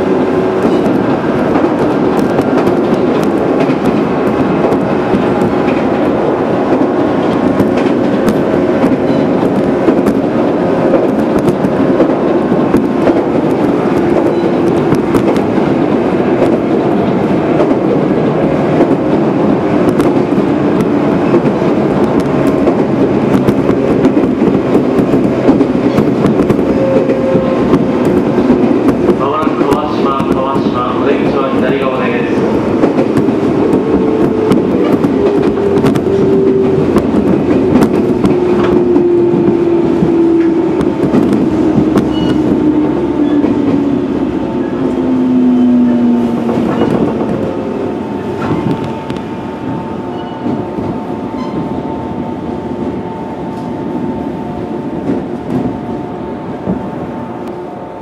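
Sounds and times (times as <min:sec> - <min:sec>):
clickety-clack of rail joints: 0:00.0 - 0:58.0
train wheels rumbling on rail: 0:00.0 - 0:58.0.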